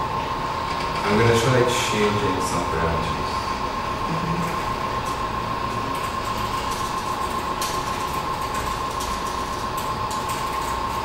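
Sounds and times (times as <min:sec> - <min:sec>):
machine hum: 0:00.0 - 0:11.0
noisy hiss: 0:00.0 - 0:11.0.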